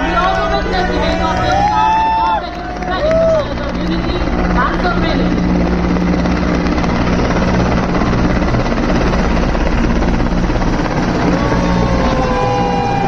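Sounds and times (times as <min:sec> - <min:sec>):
helicopters flying over: 0:00.0 - 0:13.0.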